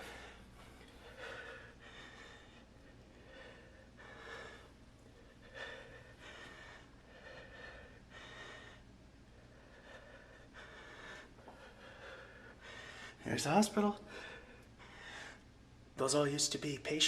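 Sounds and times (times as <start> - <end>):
person breathing hard: 0.0 - 13.2, 14.0 - 15.5.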